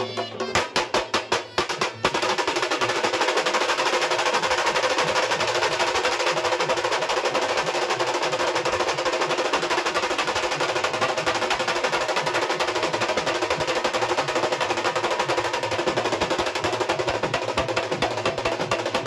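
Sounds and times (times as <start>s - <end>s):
barrel drums beaten with sticks: 0.0s - 19.0s.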